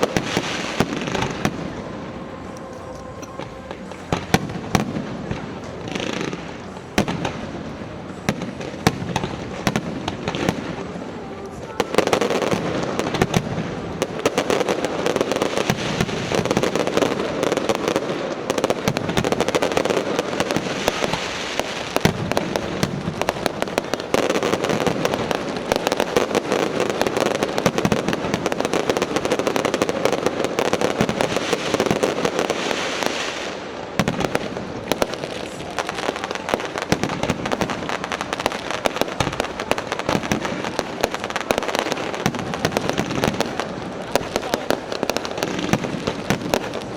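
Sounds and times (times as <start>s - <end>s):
fireworks crackling and popping: 0.0s - 46.9s.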